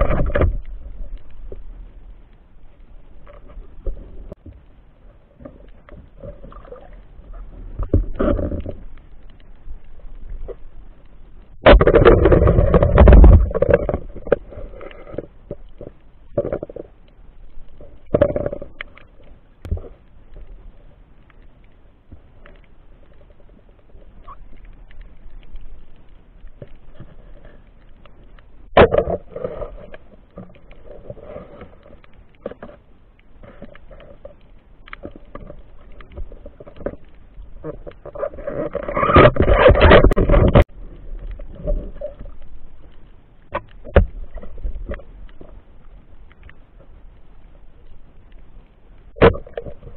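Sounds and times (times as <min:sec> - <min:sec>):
underwater crackling and bubbling: 0:00.0 - 0:49.9
underwater clicks: 0:05.4 - 0:20.5, 0:24.0 - 0:49.9.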